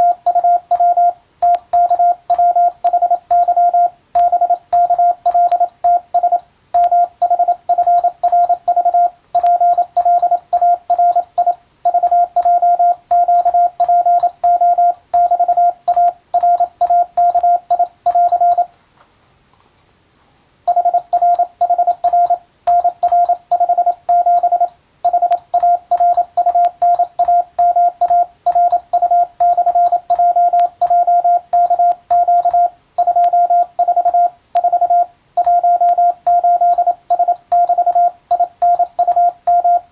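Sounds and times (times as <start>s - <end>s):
morse code beeps: 0.0s - 18.7s, 20.7s - 39.9s.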